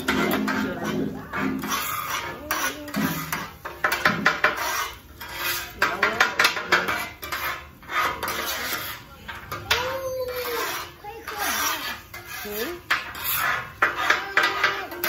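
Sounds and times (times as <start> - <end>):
metal utensils clattering and scraping: 0.0 - 15.0.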